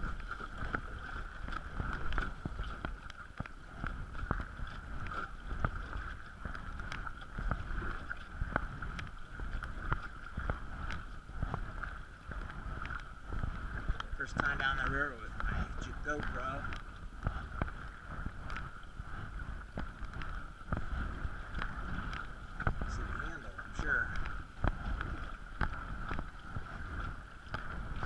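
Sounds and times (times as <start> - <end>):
paddle knocks and splashes: 0.0 - 28.0
water rushing: 0.0 - 28.0
wind rumble on microphone: 0.0 - 28.0.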